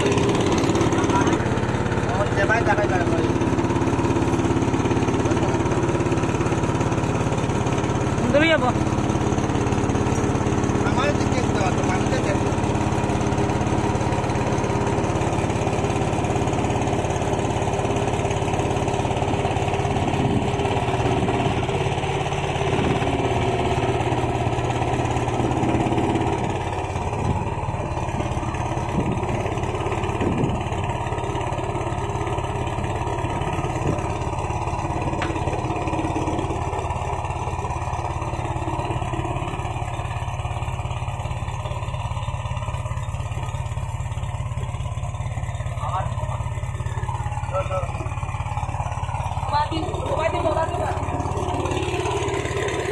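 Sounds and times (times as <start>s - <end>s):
small motor engine running: 0.0s - 52.9s.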